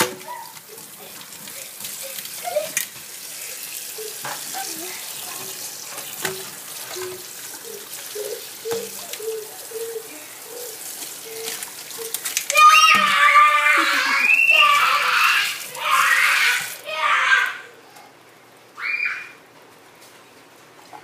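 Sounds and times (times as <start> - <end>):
tap water running into pot: 0.0 - 16.8.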